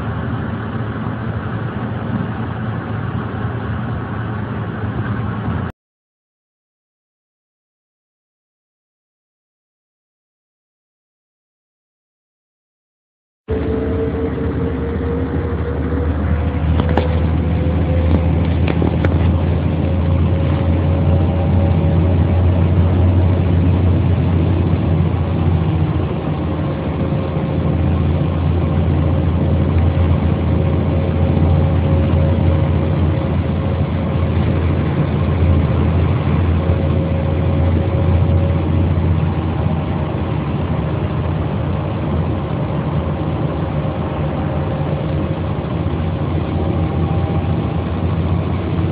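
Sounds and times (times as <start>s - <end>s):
bus diesel engine humming: 0.0s - 5.7s, 13.5s - 48.9s.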